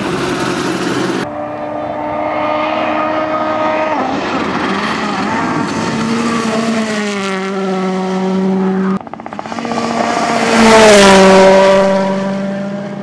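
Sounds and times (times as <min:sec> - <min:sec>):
rally car engine passing by: 0:00.8 - 0:13.0.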